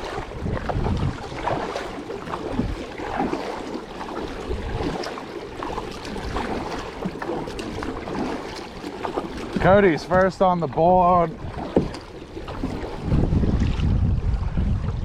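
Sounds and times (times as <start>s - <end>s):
water splashing: 0.0s - 15.0s
wind buffeting microphone: 0.0s - 15.0s.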